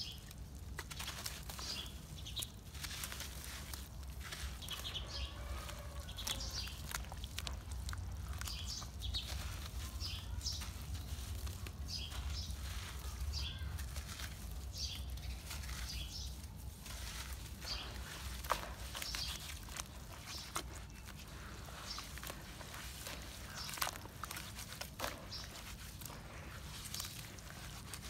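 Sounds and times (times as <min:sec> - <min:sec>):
gritty squelches of wet cement: 0:00.0 - 0:28.0.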